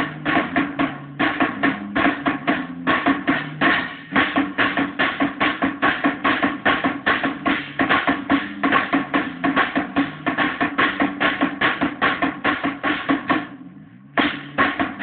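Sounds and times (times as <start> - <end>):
fast drum and cymbal beat: 0.0 - 15.0.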